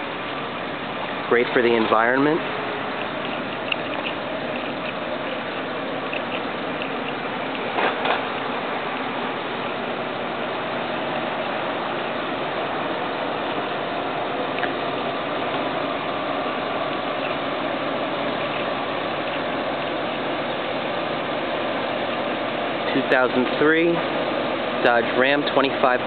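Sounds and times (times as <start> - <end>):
faint steady whine: 0.0 - 26.0
vehicle engine idling: 0.0 - 26.0.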